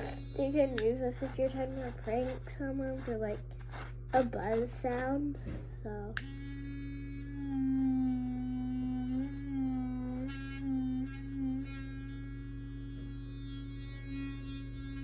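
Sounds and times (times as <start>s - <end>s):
electric toothbrush buzzing: 0.0s - 5.2s, 6.1s - 15.0s.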